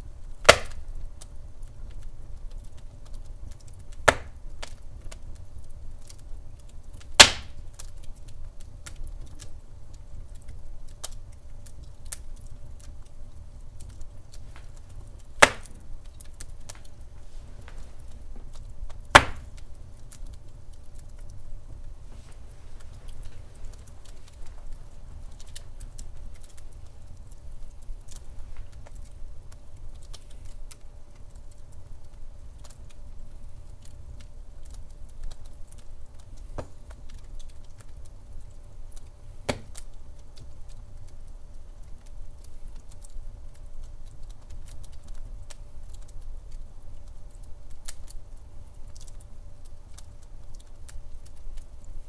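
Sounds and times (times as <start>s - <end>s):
fire crackling and popping: 0.0s - 52.0s
low fire rumble: 0.0s - 52.0s.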